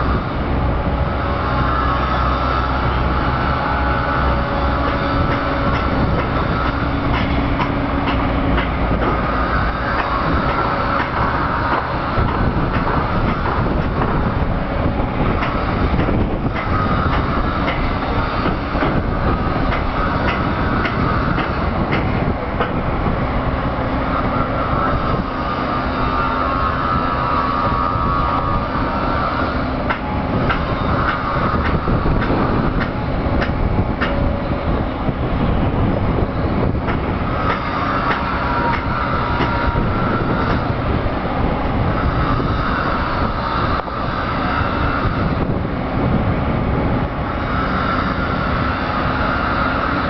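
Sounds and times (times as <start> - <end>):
excavator diesel engine under load: 0.0 - 50.0.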